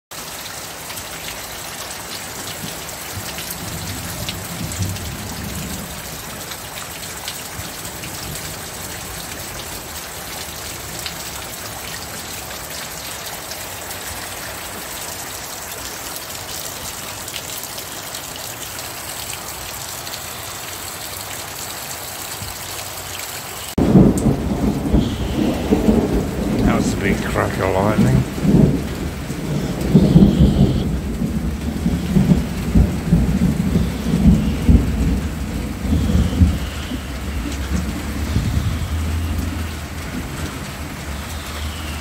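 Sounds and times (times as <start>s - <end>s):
heavy rain on paving: 0.1s - 42.0s.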